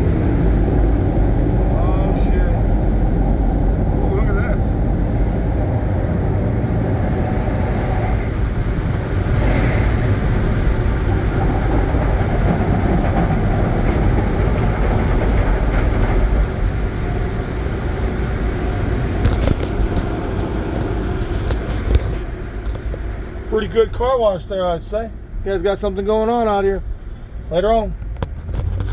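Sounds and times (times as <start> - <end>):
car wash machinery roar: 0.0 - 28.9.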